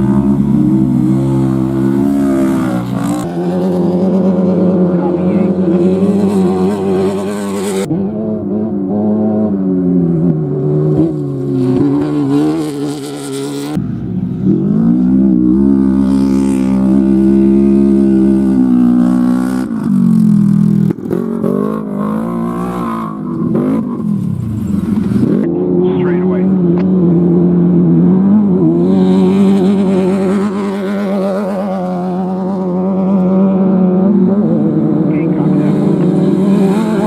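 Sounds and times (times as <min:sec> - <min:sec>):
race vehicle engines revving: 0:00.0 - 0:37.0.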